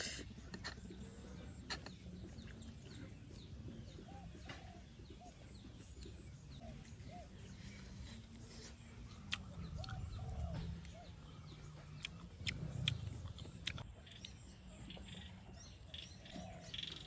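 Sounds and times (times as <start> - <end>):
low bird calls: 0.0 - 17.0
low steady hum: 0.0 - 17.0.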